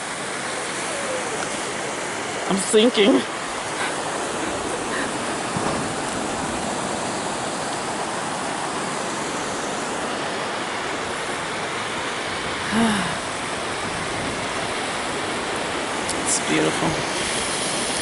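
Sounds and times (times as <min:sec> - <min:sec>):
waterfall and surf rushing: 0:00.0 - 0:18.0.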